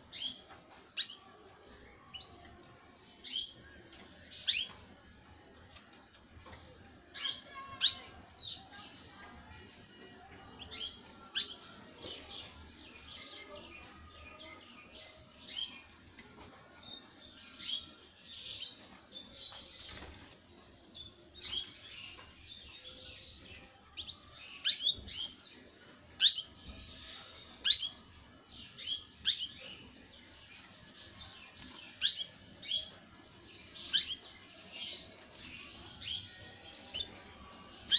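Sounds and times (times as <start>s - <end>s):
canary chirping and twittering: 0.0s - 37.9s.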